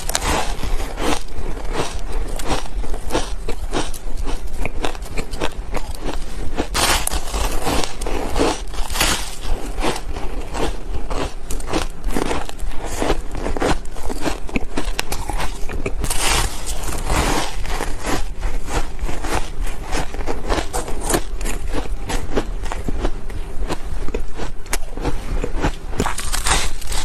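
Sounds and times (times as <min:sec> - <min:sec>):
ice being chewed: 0:00.0 - 0:27.0.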